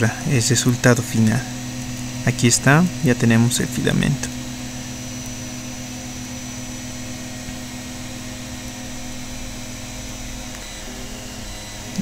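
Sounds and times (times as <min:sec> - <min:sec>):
faint high-pitched whine: 0:00.0 - 0:12.0
machine hum: 0:00.0 - 0:12.0.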